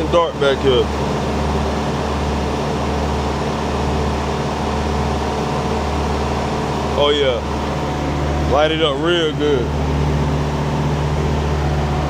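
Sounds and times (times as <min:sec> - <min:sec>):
truck engines idling: 0:00.0 - 0:12.0.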